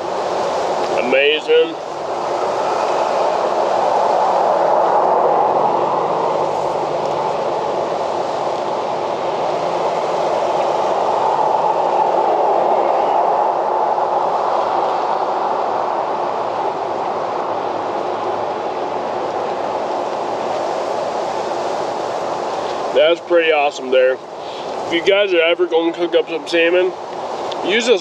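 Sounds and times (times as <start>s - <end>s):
wind rushing across microphone: 0.0s - 28.0s.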